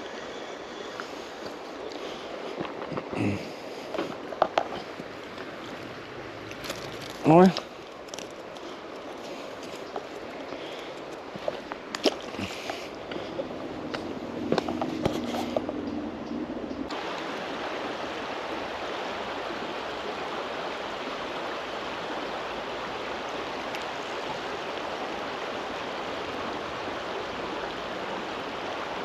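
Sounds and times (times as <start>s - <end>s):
flowing river water: 0.0s - 29.0s.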